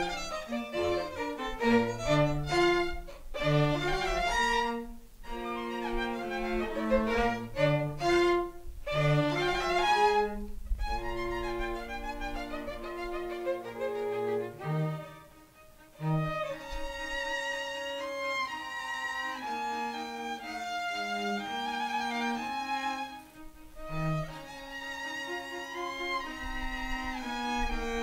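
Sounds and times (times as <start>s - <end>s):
cello: 0.0s - 28.0s
violin: 0.0s - 28.0s.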